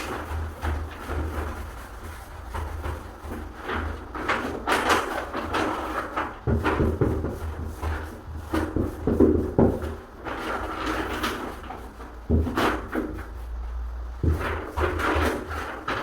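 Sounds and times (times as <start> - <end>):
knocks and scrapes of wooden door: 0.0 - 13.4, 14.1 - 16.0.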